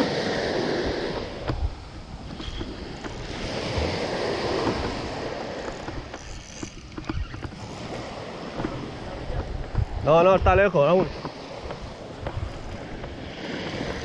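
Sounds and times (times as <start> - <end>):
small waves breaking on sand: 0.0 - 6.2, 7.5 - 14.0.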